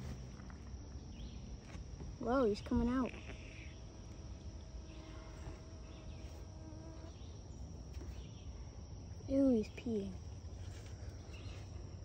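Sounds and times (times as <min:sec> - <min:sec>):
faint low hum: 0:00.0 - 0:12.0
insect chorus trilling: 0:00.0 - 0:12.0.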